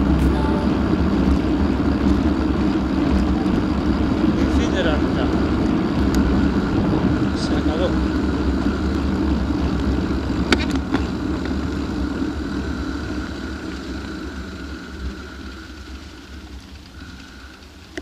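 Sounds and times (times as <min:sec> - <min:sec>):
wind buffeting microphone: 0:00.0 - 0:15.9
tyres rumbling over cobblestones: 0:00.0 - 0:18.0.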